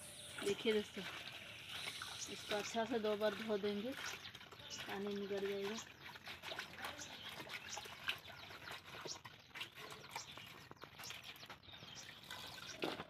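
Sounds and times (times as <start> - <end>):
water splashing in bucket: 0.0 - 13.0.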